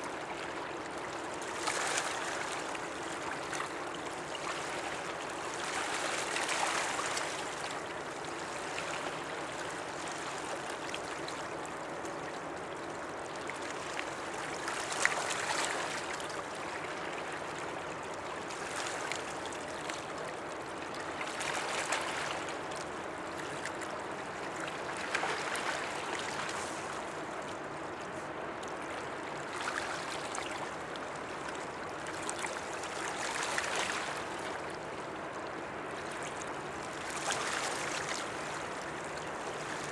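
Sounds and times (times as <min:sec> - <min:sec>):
water lapping at river's edge: 0:00.0 - 0:39.9.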